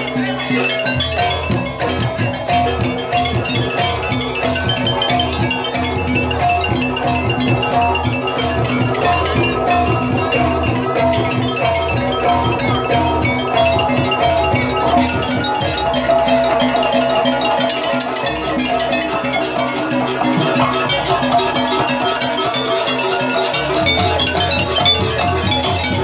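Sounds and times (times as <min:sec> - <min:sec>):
metal percussion and drums ensemble: 0:00.0 - 0:26.0.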